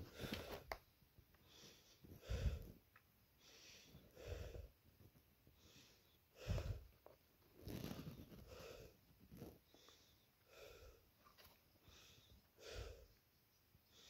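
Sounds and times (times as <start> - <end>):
person breathing close to microphone: 0.0 - 0.7, 1.4 - 14.0.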